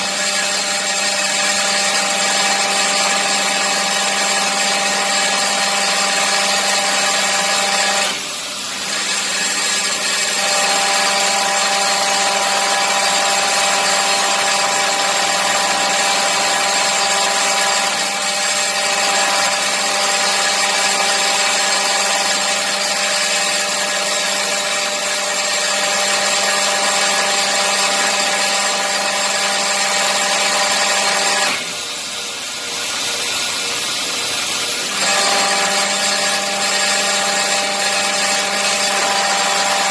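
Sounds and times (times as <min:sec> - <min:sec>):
hydraulic pump whining: 0:00.0 - 0:39.9.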